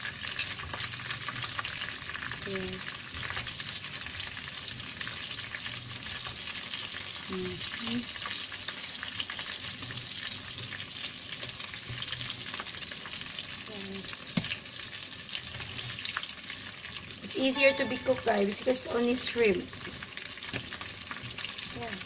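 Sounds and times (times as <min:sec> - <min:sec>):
spring rolls sizzling in oil: 0:00.0 - 0:22.0.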